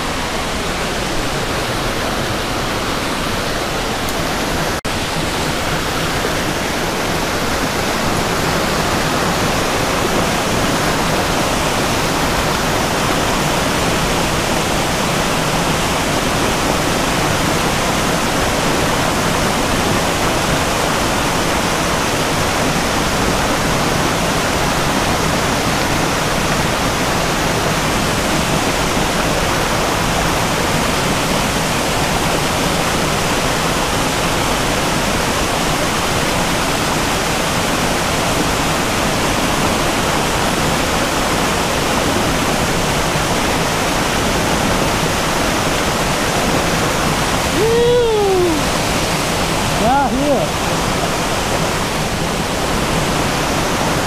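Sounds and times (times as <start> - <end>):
creek rushing over boulders: 0.0 - 54.0.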